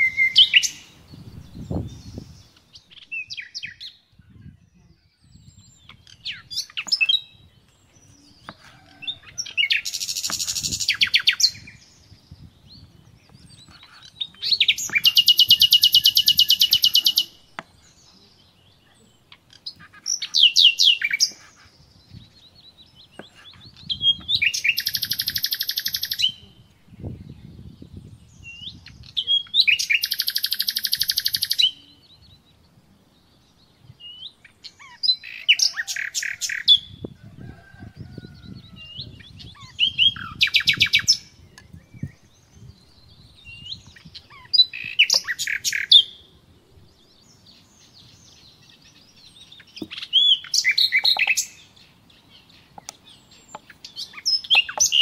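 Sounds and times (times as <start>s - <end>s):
songbird trilling: 0.0s - 27.8s, 28.4s - 32.6s, 33.9s - 46.4s, 47.1s - 55.0s.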